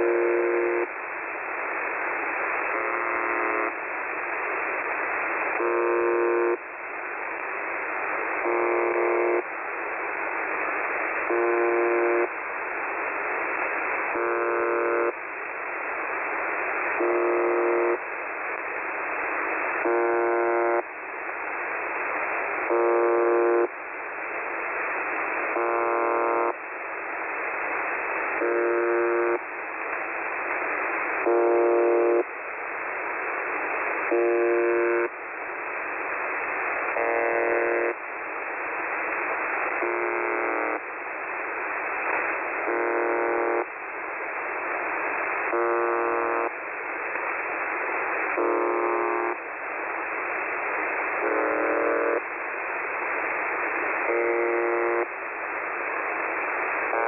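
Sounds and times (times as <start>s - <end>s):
harsh radio buzz: 0.0s - 6.8s, 7.6s - 9.6s, 10.2s - 57.0s
radio static hiss: 0.0s - 57.0s.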